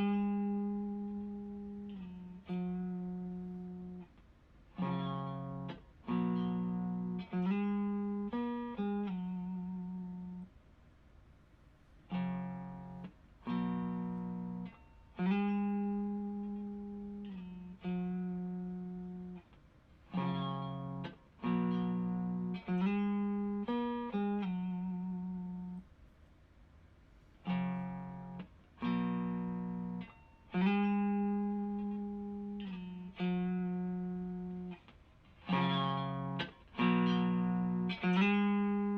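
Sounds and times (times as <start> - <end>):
overdriven electric guitar: 0.0 - 10.5, 12.1 - 25.8, 27.4 - 38.9.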